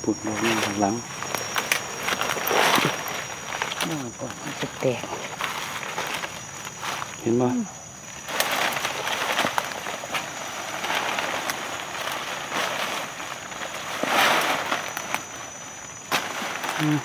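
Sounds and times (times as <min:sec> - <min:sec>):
dry leaves rustling underfoot: 0:00.0 - 0:17.0
twigs snapping: 0:00.4 - 0:07.2, 0:08.1 - 0:17.0.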